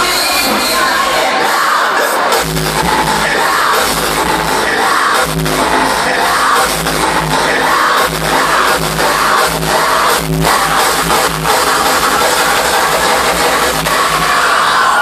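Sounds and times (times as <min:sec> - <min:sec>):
heavy bass beat: 0:00.0 - 0:14.9
hardstyle dance music: 0:00.0 - 0:15.0.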